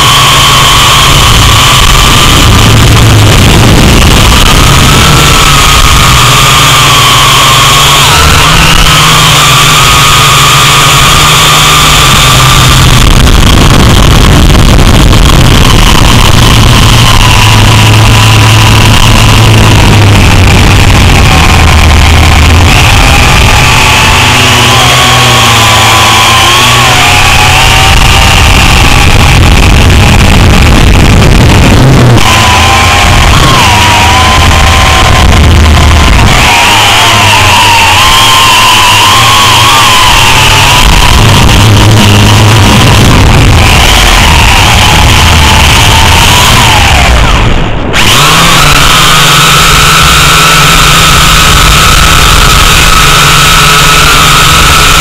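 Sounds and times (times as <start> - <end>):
rushing noise: 0.0 - 55.0.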